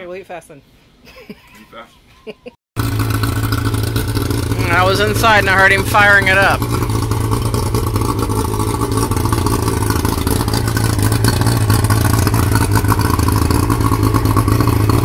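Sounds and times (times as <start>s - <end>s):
outboard motor running: 2.8s - 15.0s.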